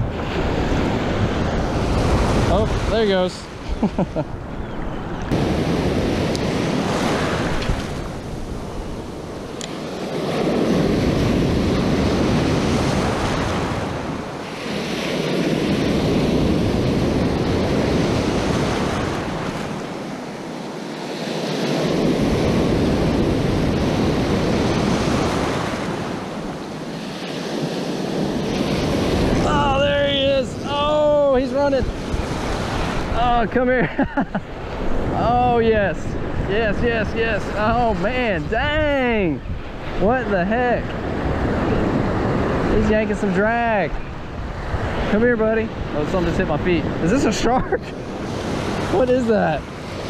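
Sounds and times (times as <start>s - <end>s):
surf waves breaking: 0.0s - 50.0s.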